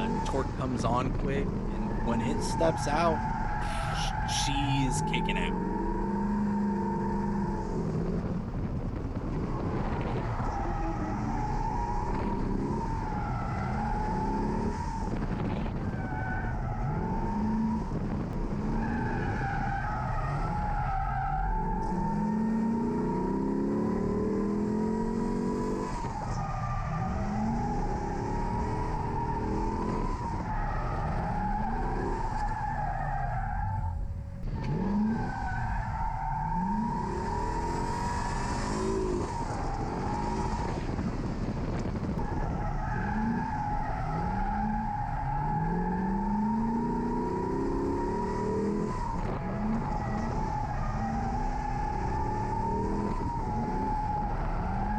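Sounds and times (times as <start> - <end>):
tire squeal: 0.0 - 8.2, 9.4 - 54.9
car engine revving: 0.0 - 54.9.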